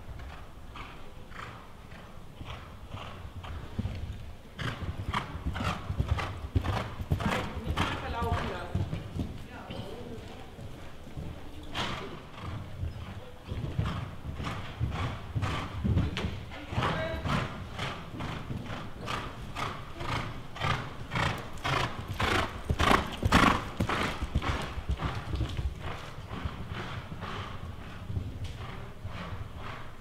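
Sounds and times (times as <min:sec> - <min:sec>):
horse cantering on sand: 0:00.0 - 0:30.0.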